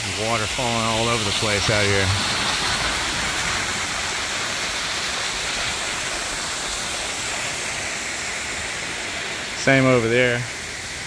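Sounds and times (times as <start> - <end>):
waterfall splashing: 0.0 - 11.0.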